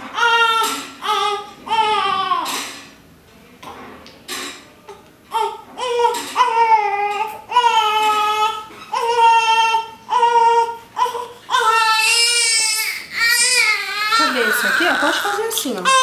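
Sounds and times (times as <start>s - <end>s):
baby crying: 0.1s - 2.5s, 5.3s - 16.0s.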